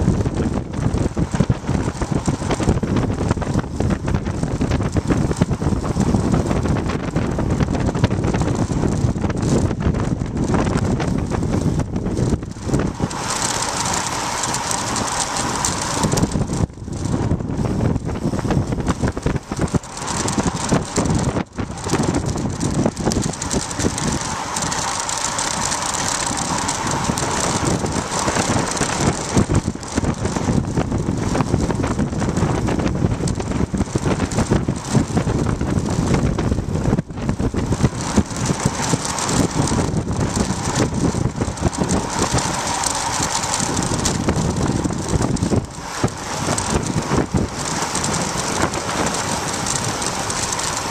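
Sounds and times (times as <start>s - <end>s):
high whir: 0.0s - 50.9s
tyre and road noise: 0.0s - 50.9s
wind rushing over microphone: 0.0s - 50.9s.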